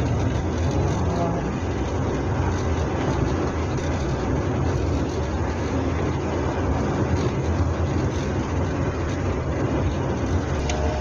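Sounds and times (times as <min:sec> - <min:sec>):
car engine low rumble: 0:00.0 - 0:11.0
road noise inside car: 0:00.0 - 0:11.0.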